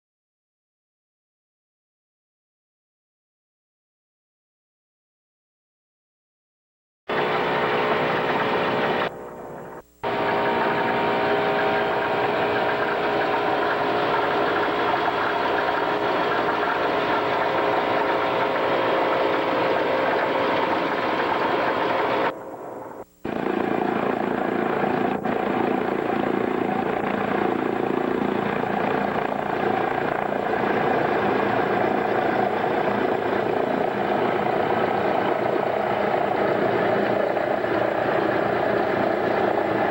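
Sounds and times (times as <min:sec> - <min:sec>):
aircraft piston engines running: 0:07.1 - 0:39.9.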